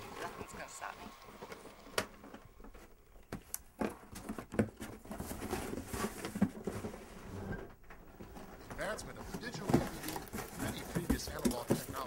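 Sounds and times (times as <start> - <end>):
cardboard packaging rustling: 0.0 - 7.4, 8.1 - 12.0.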